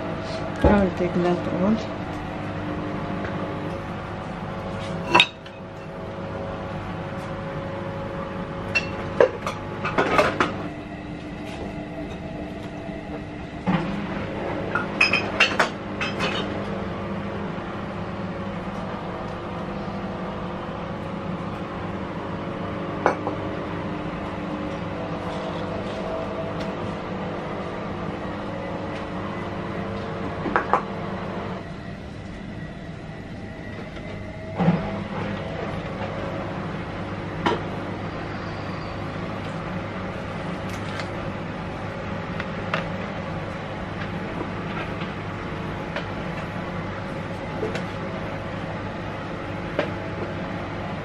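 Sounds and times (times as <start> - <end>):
steady machine hum: 0.0 - 51.0.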